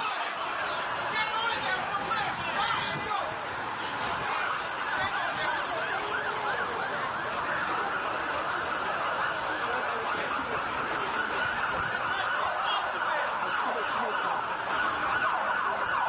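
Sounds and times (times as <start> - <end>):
emergency vehicle sirens yelping: 0.0 - 16.0.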